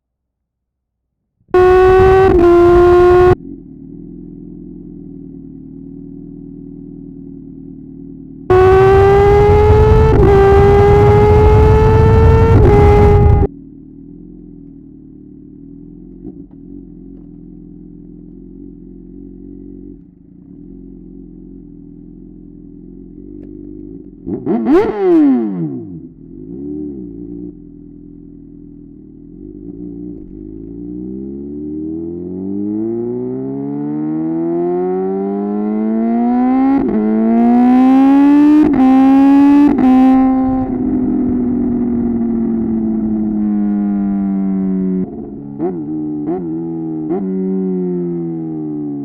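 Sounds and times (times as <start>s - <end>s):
motorcycle engine revving with upshifts: 1.5s - 49.0s.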